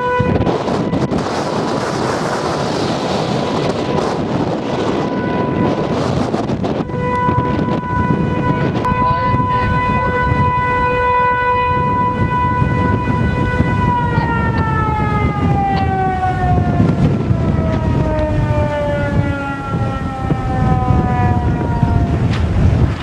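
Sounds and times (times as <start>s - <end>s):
tornado warning siren: 0.0s - 23.0s.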